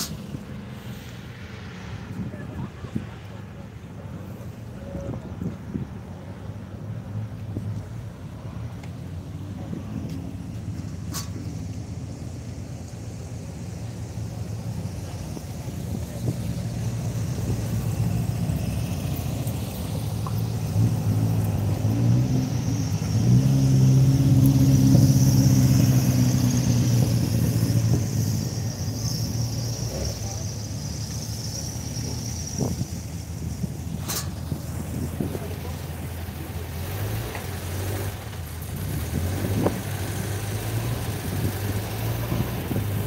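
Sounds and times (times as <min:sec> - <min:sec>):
car engines running at low revs: 0:00.0 - 0:43.0.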